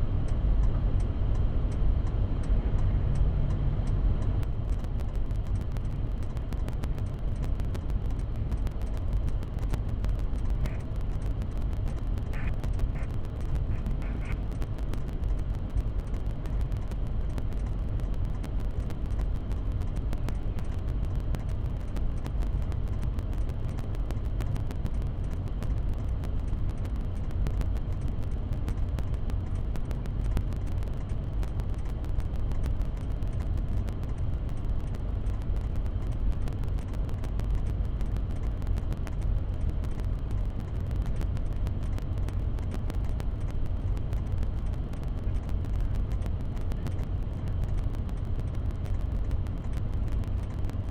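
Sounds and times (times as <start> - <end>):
fine crackle: 4.4 - 50.9.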